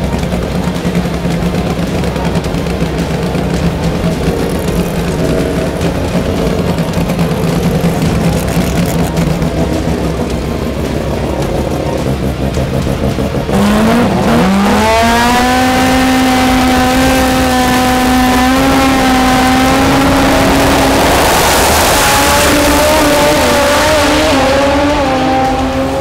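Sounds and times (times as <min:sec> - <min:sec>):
drag race car engine: 0:00.0 - 0:26.0.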